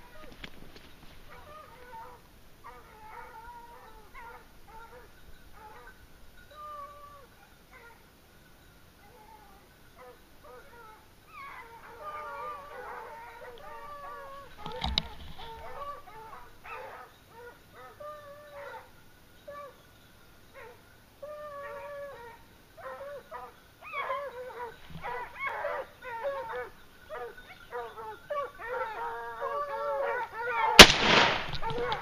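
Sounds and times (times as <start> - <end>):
hounds baying: 1.2 - 8.1, 9.0 - 30.9, 31.5 - 32.0.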